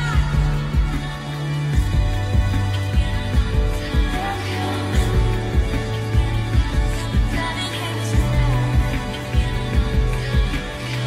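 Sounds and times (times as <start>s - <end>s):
held bass line: 0.0s - 11.0s
music with steady beat: 0.0s - 11.0s.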